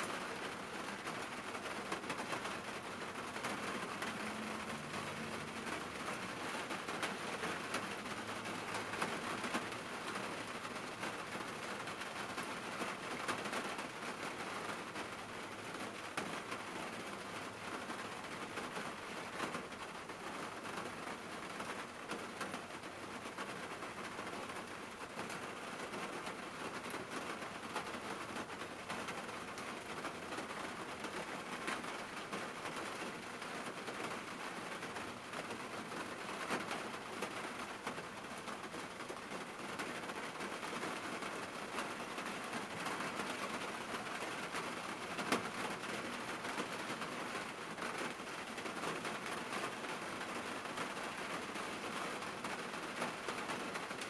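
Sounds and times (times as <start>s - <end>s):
rain on car roof: 0.0s - 54.0s.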